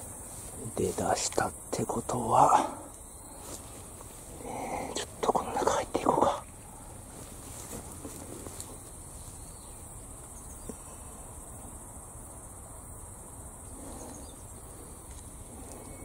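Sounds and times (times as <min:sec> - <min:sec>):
insects chirring: 0:00.0 - 0:16.0
rustling in undergrowth: 0:00.0 - 0:16.0.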